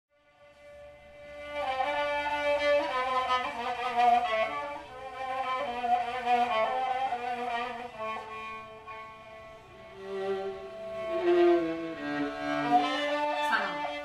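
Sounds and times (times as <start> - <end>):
bowed strings melody: 0.1 - 14.0.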